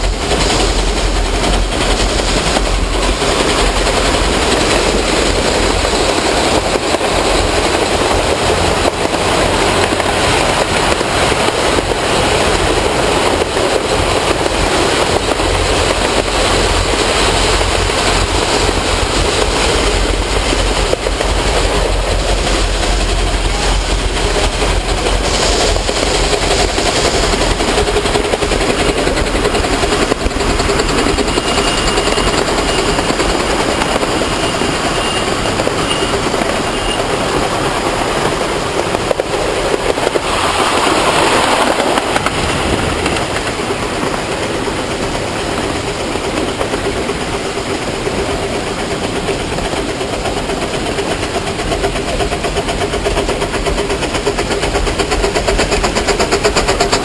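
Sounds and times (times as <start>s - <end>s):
miniature train engine and wheels: 0.0s - 57.0s
rush of noise: 0.0s - 57.0s.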